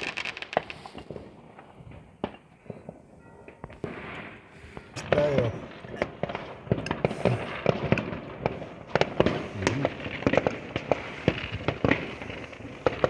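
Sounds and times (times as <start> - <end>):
firecrackers crackling: 0.0 - 13.0
fireworks bangs: 0.0 - 13.0.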